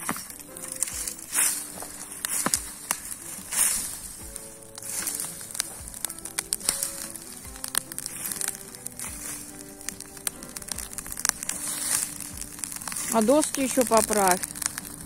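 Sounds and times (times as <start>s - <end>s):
background music: 0.0s - 15.0s
bonfire crackling and popping: 0.0s - 15.0s.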